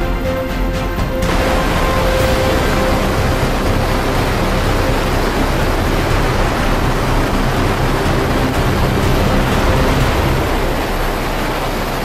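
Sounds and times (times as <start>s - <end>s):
helicopter rotor and wind noise: 0.5s - 12.0s.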